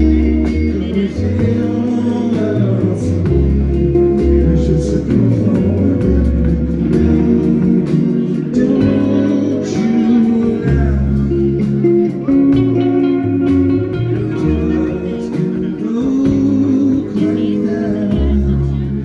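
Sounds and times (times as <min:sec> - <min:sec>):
bass notes: 0:00.0 - 0:19.0
drums keeping time: 0:00.0 - 0:19.0
electric guitars: 0:00.0 - 0:19.0.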